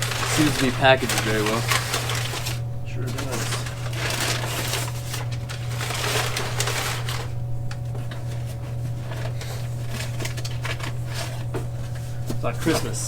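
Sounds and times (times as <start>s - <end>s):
packing material rustling: 0.0s - 13.0s
steady low hum: 0.0s - 13.0s.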